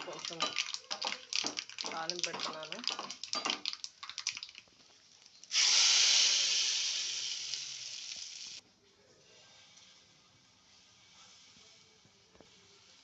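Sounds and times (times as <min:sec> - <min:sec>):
hot oil sizzling: 0:00.0 - 0:08.6, 0:09.4 - 0:13.0.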